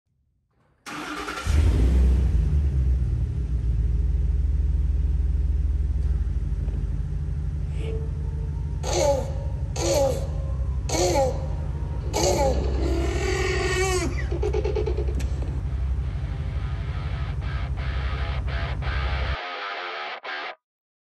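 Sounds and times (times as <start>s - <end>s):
vehicle engine starting and idling: 0.9s - 19.4s.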